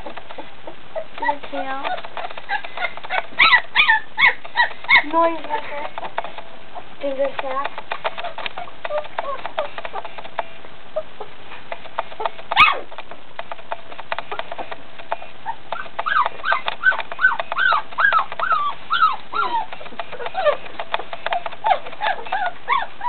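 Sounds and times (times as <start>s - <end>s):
puppies whimpering and yelping: 0.0s - 6.9s, 8.0s - 11.4s, 12.0s - 13.0s, 14.2s - 23.0s.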